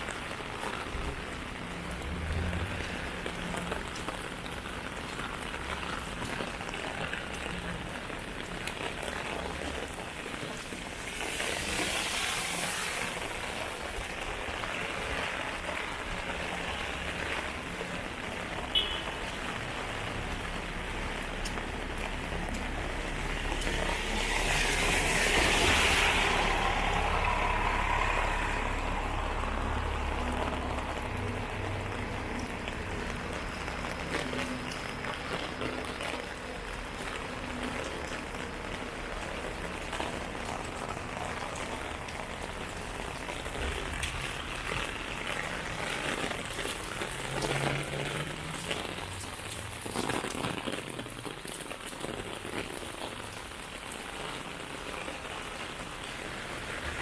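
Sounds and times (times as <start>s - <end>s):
heavy rain on umbrella and pavement: 0.0s - 57.0s.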